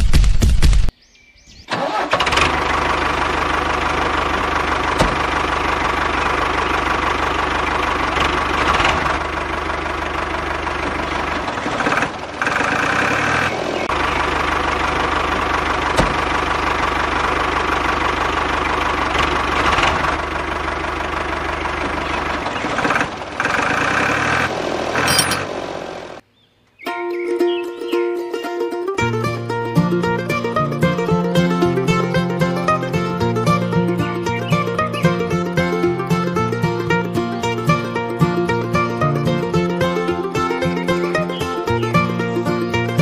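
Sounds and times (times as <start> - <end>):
truck engine running: 1.7 - 26.3, 28.9 - 43.0.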